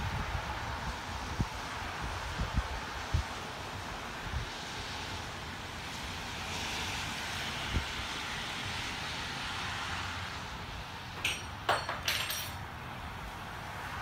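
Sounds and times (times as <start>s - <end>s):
rain and wet snow falling: 0.0s - 11.6s, 12.6s - 14.0s.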